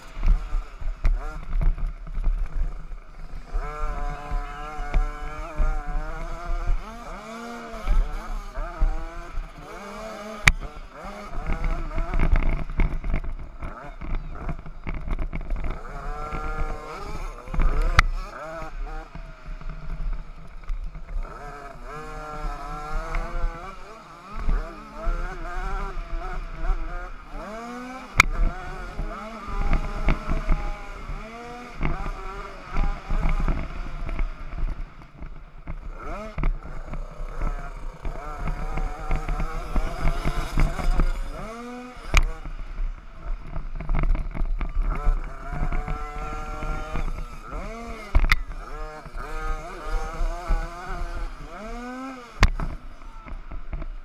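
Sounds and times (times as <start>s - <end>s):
small motocross engines revving: 0.0s - 54.0s.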